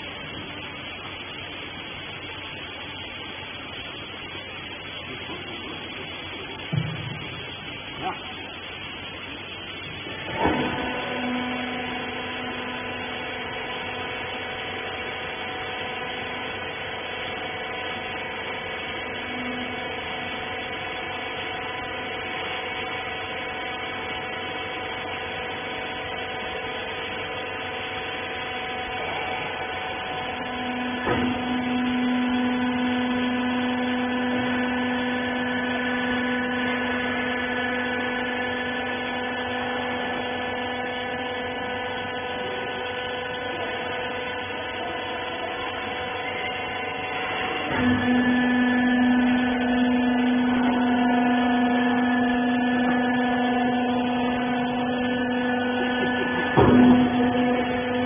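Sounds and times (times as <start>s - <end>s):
baling machine humming and whining: 0.0s - 58.0s
low machine hum: 0.0s - 58.0s.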